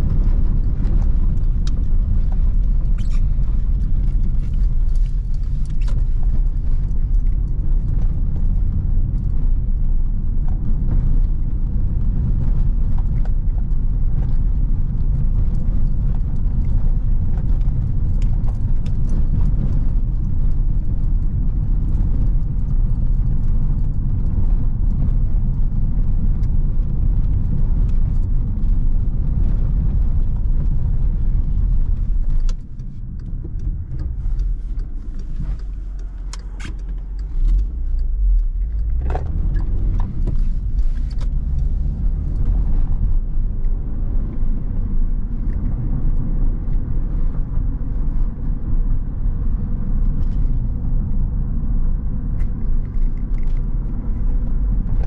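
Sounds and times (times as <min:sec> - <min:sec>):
car tyres rumbling on cobbles: 0:00.0 - 0:55.0.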